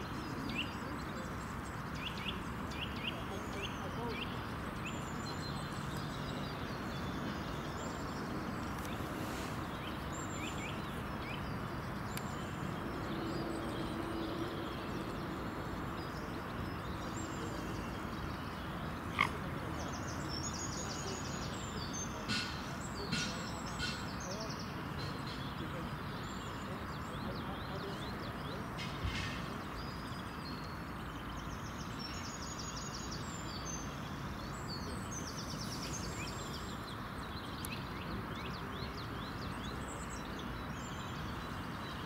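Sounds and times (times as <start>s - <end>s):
small birds chirping and trilling: 0.0s - 42.0s
steady background hiss: 0.0s - 42.0s.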